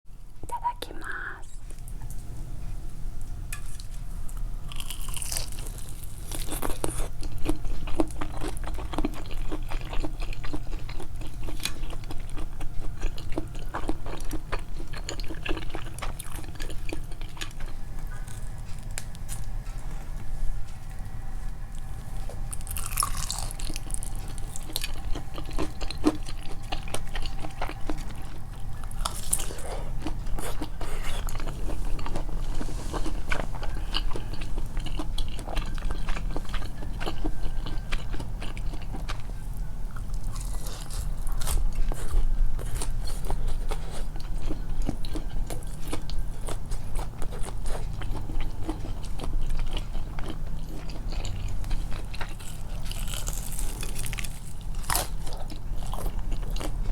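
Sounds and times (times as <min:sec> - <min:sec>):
low steady hum: 0:00.1 - 0:56.9
crunchy chewing: 0:03.2 - 0:56.9.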